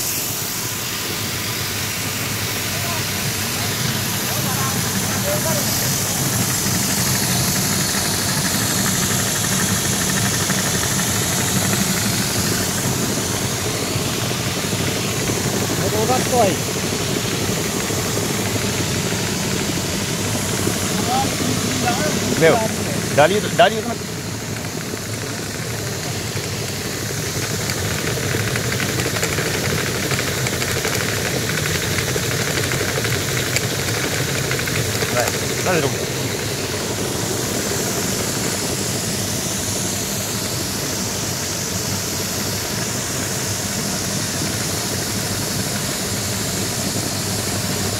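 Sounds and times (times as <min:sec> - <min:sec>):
air machine rushing through hose: 0:00.0 - 0:47.9
grain blower humming: 0:00.0 - 0:47.9
hiss: 0:00.0 - 0:47.9.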